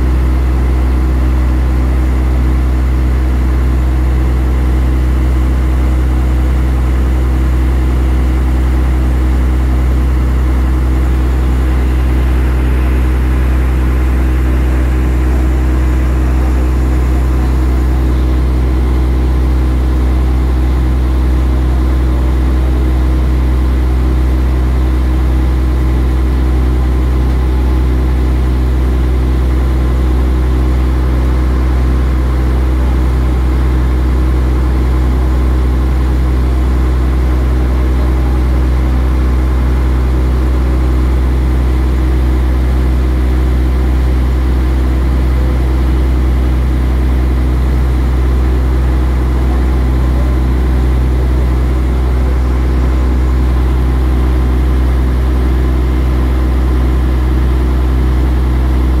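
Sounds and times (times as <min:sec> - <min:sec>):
ferry engine droning: 0:00.0 - 0:59.0.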